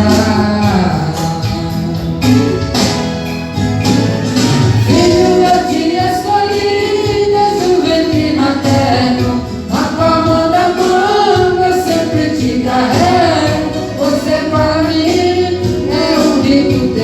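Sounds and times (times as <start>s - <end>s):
person singing gospel: 0.0s - 3.0s, 4.9s - 17.0s
band accompaniment: 0.0s - 17.0s.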